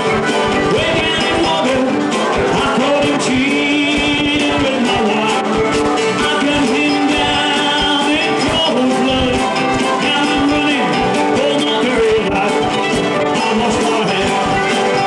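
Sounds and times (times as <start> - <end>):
strummed acoustic guitars: 0.0 - 15.0
wavering lead melody: 0.0 - 15.0.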